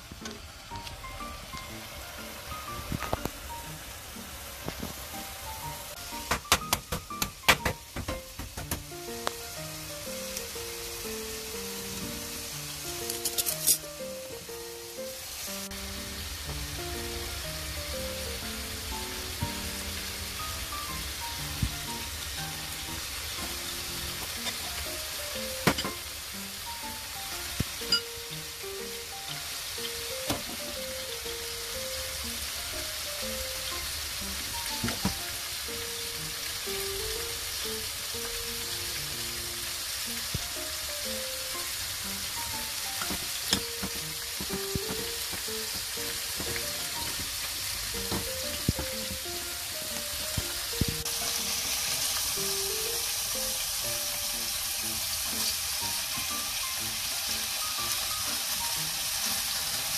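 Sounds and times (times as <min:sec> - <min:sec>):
soft background music: 0:00.0 - 0:59.9
steady hiss: 0:00.0 - 0:59.9
tofu sizzling in oil: 0:00.0 - 0:59.9.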